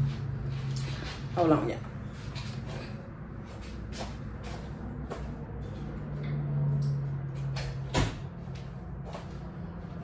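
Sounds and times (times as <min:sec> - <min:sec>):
soft footsteps: 0:00.0 - 0:10.0.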